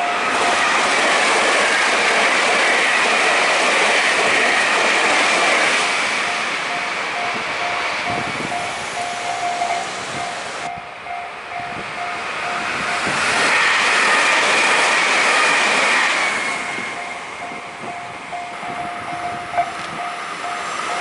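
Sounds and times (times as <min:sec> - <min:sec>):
crossing warning bell clanging: 0:00.0 - 0:21.0
electric train passing: 0:00.0 - 0:21.0.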